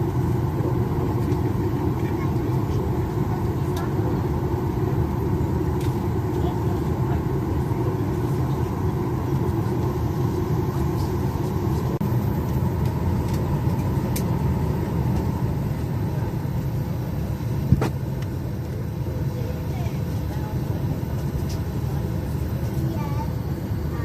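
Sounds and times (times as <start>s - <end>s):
aircraft cabin rumble: 0.0s - 24.0s.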